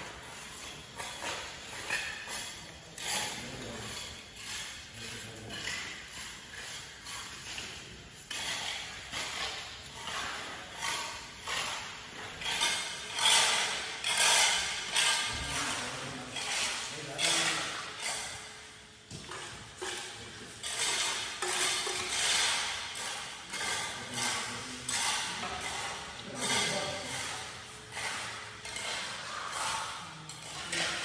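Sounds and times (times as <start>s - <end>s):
trowels scraping wet cement: 0.0s - 18.6s, 19.4s - 31.0s.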